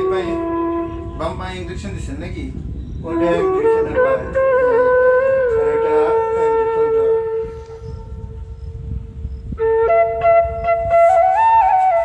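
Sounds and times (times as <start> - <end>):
slow wind instrument melody: 0.0 - 1.9, 2.7 - 12.0.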